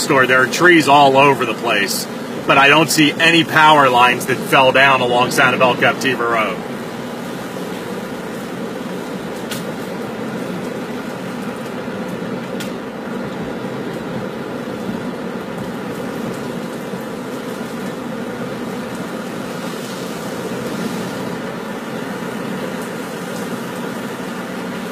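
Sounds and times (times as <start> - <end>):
car road and engine noise: 0.0 - 24.9.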